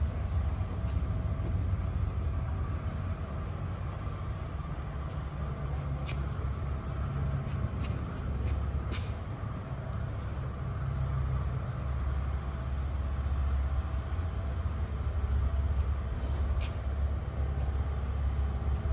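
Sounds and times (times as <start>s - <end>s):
excavator engine idling: 0.0s - 18.9s.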